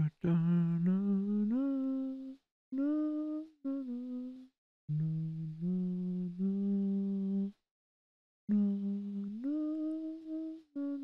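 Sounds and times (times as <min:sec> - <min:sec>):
person singing wordless tune: 0:00.0 - 0:07.6, 0:08.5 - 0:11.0.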